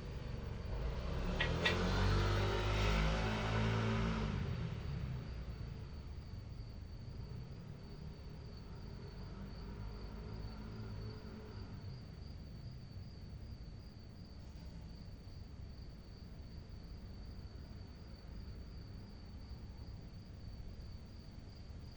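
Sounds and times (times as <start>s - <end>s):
crickets chirping: 0.0s - 21.9s.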